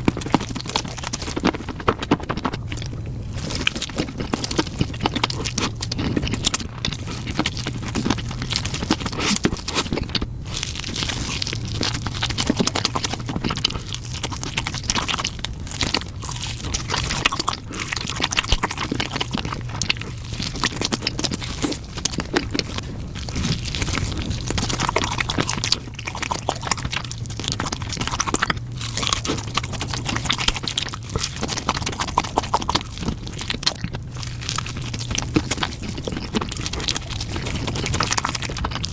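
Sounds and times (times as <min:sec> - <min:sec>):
chewing crunchy chicken: 0:00.0 - 0:38.9
wet crackling mouth sounds: 0:00.0 - 0:38.9.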